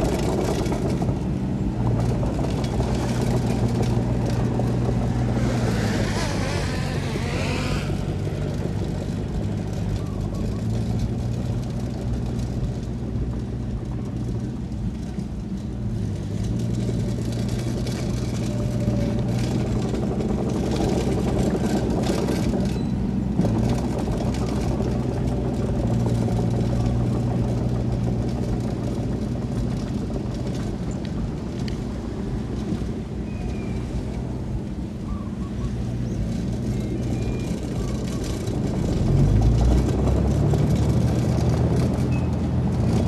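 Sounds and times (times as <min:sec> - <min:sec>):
diesel engine of heavy machinery: 0:00.0 - 0:43.0.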